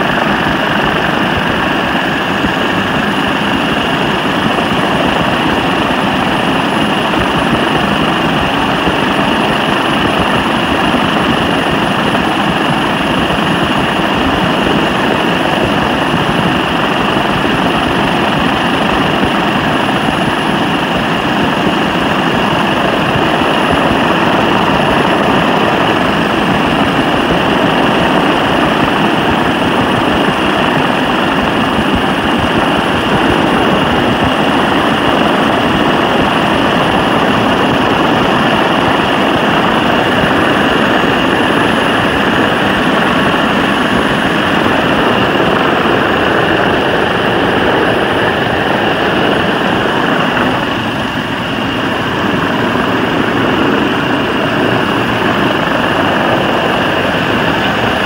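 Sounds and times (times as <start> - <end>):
constant whine: 0.0 - 58.0
helicopter engine and rotor drone: 0.0 - 58.0.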